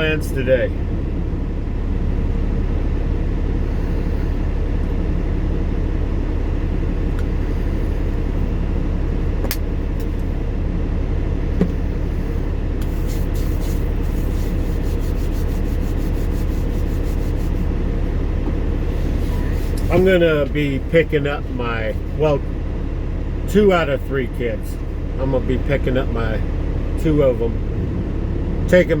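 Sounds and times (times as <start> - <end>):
diesel engine rumble: 0.0 - 29.0.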